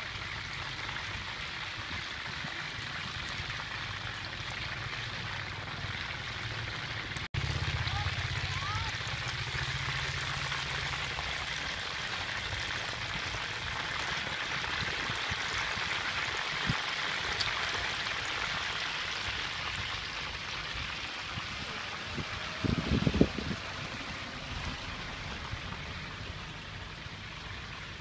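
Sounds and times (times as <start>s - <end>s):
deep-frying oil sizzling: 0.0s - 28.0s.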